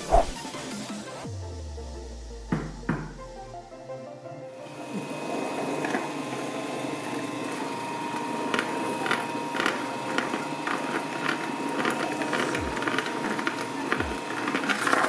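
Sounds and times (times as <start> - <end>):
shredder running: 0.4 - 15.0.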